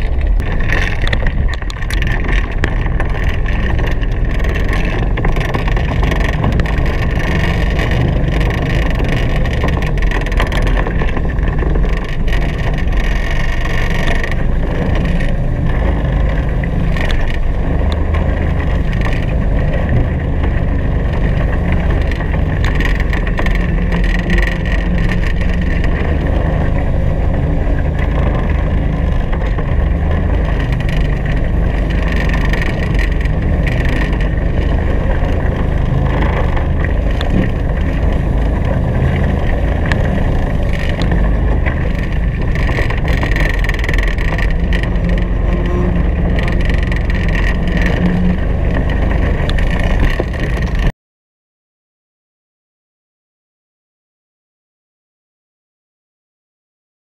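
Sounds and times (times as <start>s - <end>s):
loud wind rumble on microphone: 0.0s - 50.9s
water rushing along boat hulls: 0.0s - 50.9s.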